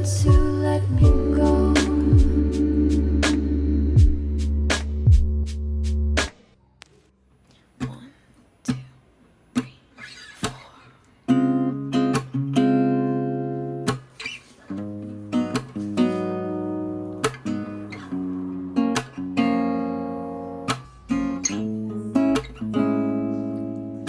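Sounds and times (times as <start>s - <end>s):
acoustic guitar music: 0.0s - 6.4s, 7.8s - 24.0s.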